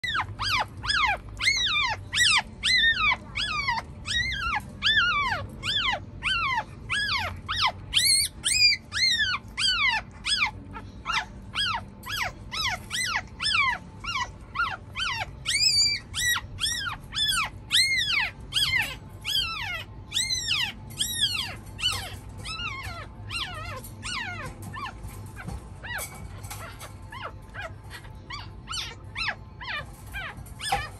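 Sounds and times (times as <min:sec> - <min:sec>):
puppy crying shrilly: 0:00.0 - 0:30.9.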